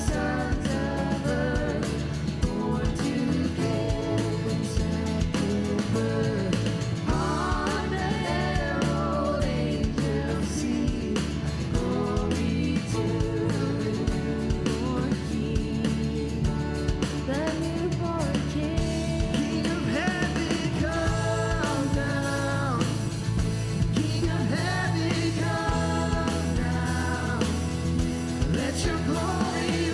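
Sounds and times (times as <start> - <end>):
bass guitar: 0.0 - 29.9
drums keeping a steady beat: 0.0 - 29.9.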